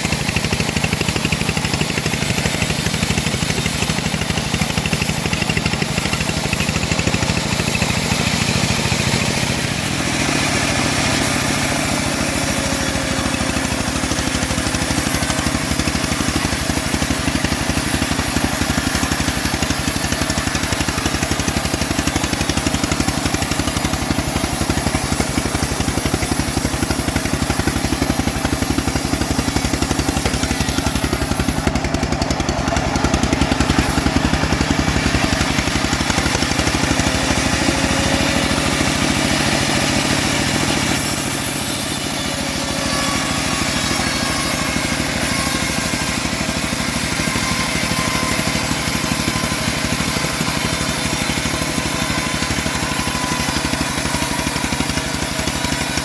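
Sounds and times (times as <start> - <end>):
bandsaw mill sawing wood: 0.0 - 56.0.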